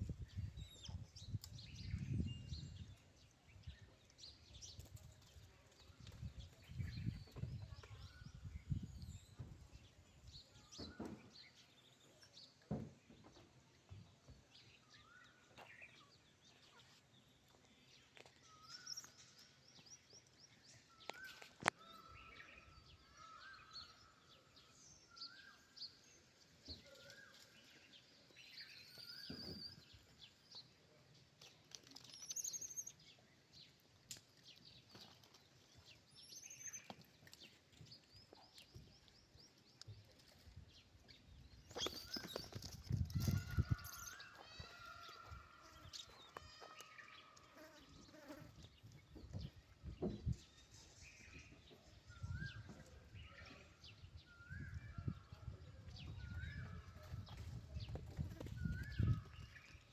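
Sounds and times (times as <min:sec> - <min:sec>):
faint birds chirping: 0:00.1 - 0:59.9.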